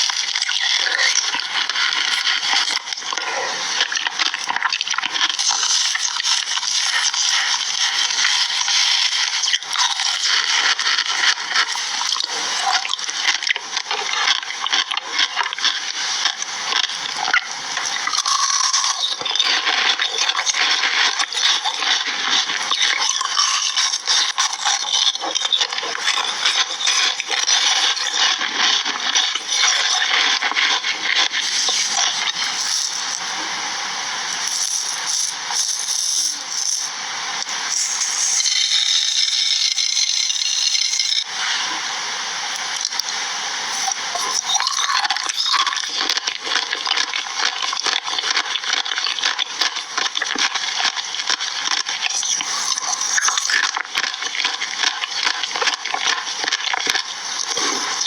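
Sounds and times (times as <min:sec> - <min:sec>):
food frying in hot oil: 0:00.0 - 0:58.0.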